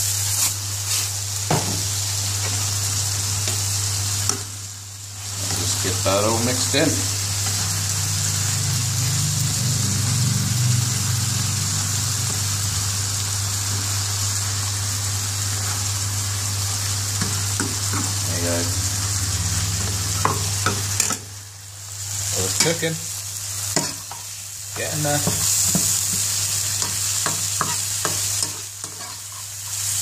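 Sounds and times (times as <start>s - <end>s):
chicken sizzling in a pan: 0.0s - 30.0s.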